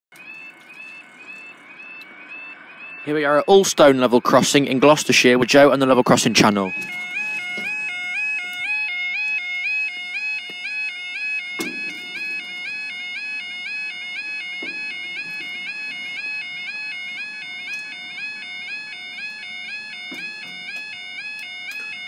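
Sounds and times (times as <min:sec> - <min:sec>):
level crossing alarm warbling: 0:00.1 - 0:22.0.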